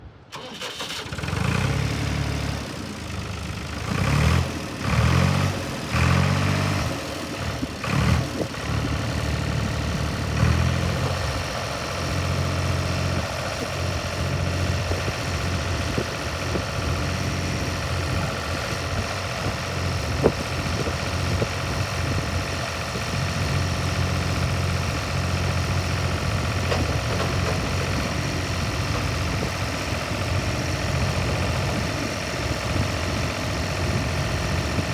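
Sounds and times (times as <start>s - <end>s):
tractor diesel engine running: 0.3s - 34.9s.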